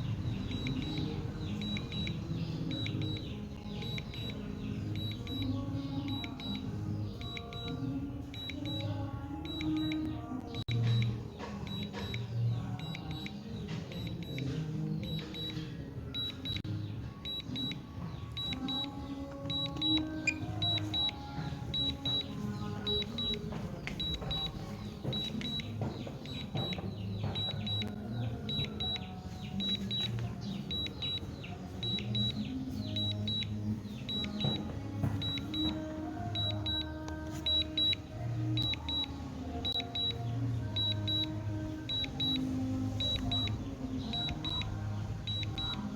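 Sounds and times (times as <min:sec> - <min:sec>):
background music: 0:00.0 - 0:45.9
high-pitched double beep: 0:00.5 - 0:40.2, 0:40.8 - 0:45.9.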